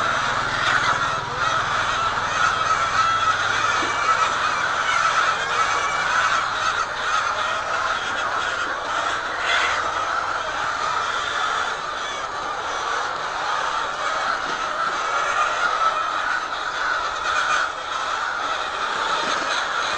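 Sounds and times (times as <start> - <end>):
flock of hens calling: 0.0 - 19.9.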